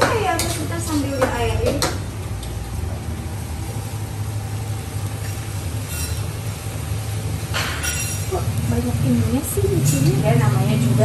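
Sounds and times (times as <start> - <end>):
exhaust fan drone: 0.0 - 11.0.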